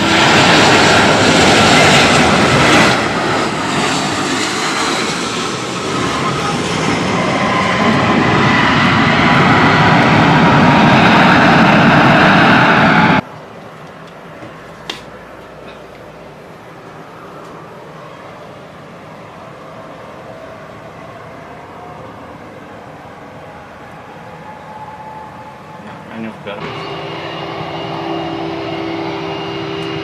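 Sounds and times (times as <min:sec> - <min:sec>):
aircraft engines running: 0:00.0 - 0:30.0.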